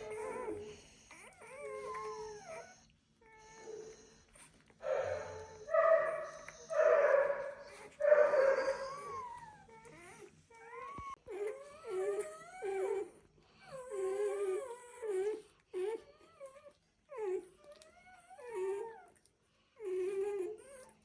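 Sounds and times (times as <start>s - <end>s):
dog whining: 0.0s - 21.0s.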